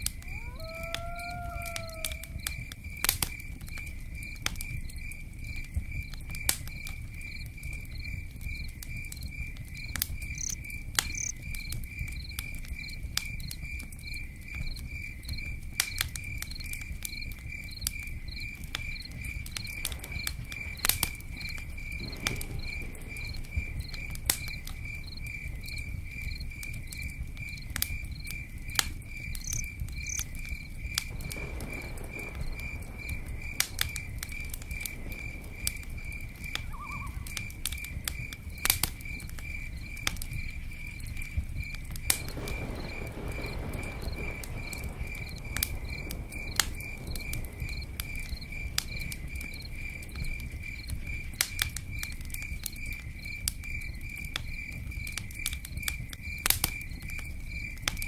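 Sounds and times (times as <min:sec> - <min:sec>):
campfire crackling and popping: 0:00.0 - 0:58.0
crickets chirping: 0:00.0 - 0:58.0.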